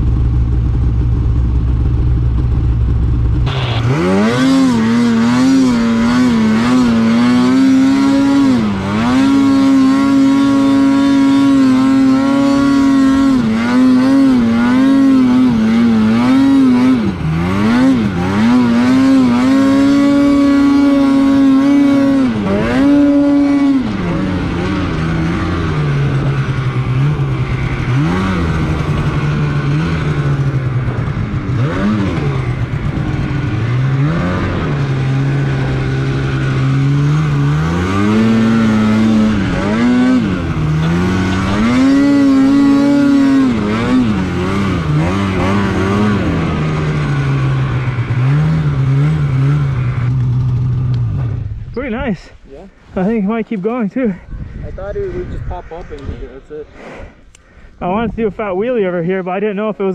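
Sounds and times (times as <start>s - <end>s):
snowmobile engine revving: 3.2s - 59.9s.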